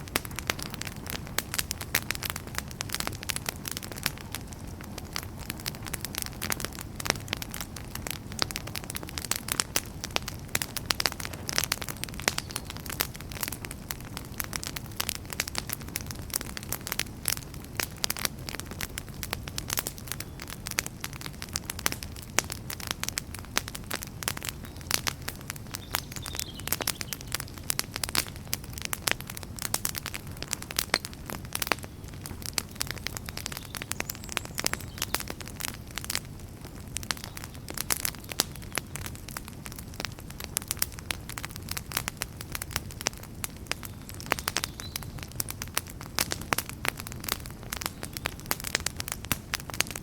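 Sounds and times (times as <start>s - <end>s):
campfire crackling and popping: 0.0s - 50.0s
low rumble of flames: 0.0s - 50.0s.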